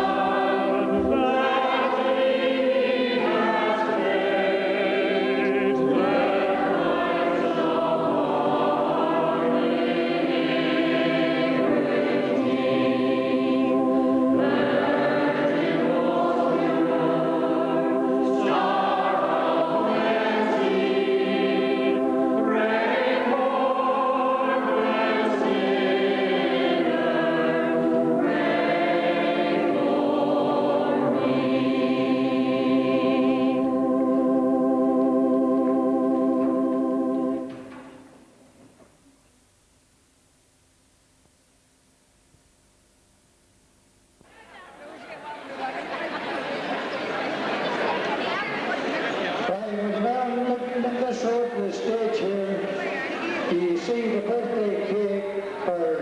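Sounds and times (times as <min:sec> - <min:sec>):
choir singing a hymn: 0:00.0 - 0:38.0, 0:45.5 - 0:56.0.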